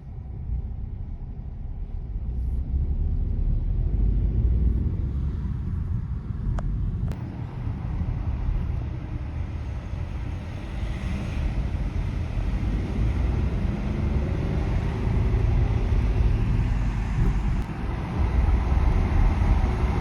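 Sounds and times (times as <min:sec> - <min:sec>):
passing vehicles: 0:00.0 - 0:20.0.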